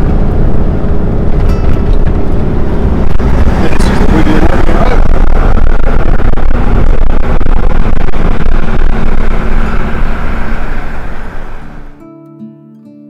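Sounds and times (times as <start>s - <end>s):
low engine drone: 0.0s - 12.0s
road rumble: 0.0s - 12.0s
wind rush: 0.0s - 12.0s.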